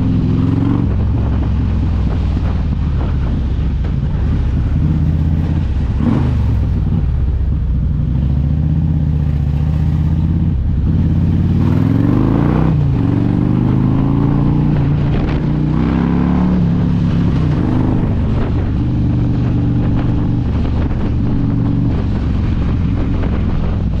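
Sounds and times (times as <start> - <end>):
motorcycle engine accelerating: 0.0 - 24.0
wind and road noise: 0.0 - 24.0.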